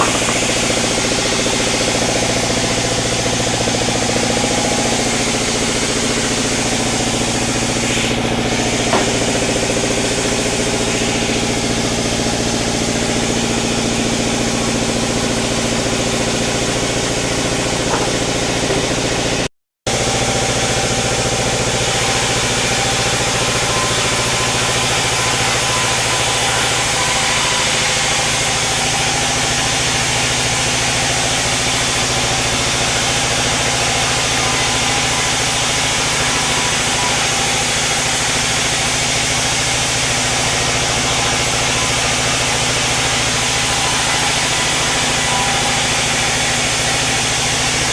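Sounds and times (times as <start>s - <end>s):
sawmill machinery humming: 0.0s - 47.9s.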